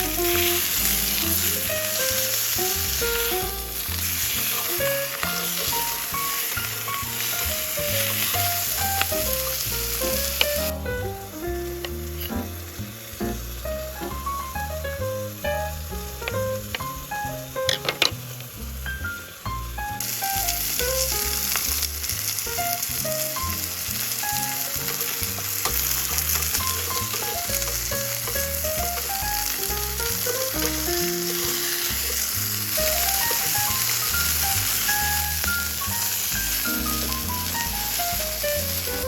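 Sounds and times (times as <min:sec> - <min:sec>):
light plucked music: 0:00.0 - 0:39.0
meat sizzling in a pan: 0:00.0 - 0:39.0.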